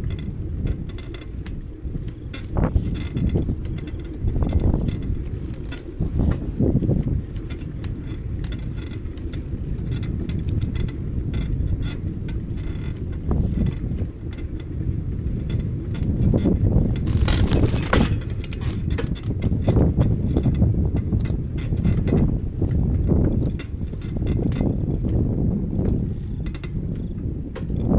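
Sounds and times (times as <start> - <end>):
bicycle rattling and ticking: 0.0 - 27.9
wind rumbling on microphone: 0.0 - 27.9.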